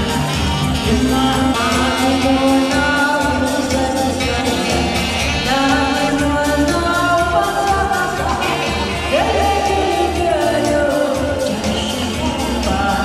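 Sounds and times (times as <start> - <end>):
dance music with singing: 0.0 - 13.0.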